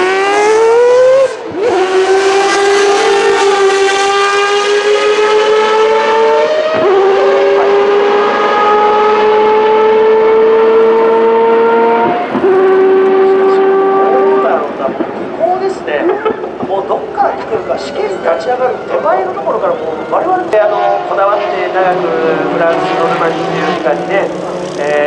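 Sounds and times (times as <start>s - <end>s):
rotary engine at full throttle: 0.0s - 25.0s.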